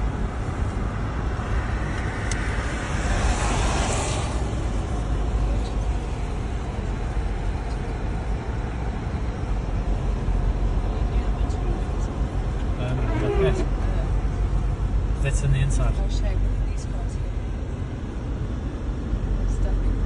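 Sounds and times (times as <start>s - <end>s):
car driving rumble from inside: 0.0s - 20.0s
hissing road noise: 0.0s - 20.0s.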